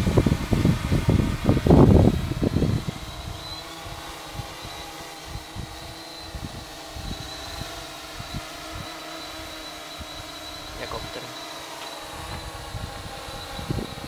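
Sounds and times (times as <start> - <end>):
drone propeller hum: 0.0 - 14.0.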